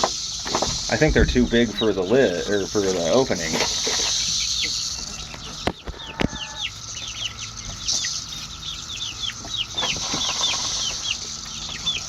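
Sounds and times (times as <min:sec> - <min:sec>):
chickens cheeping and clucking: 0:00.0 - 0:12.0.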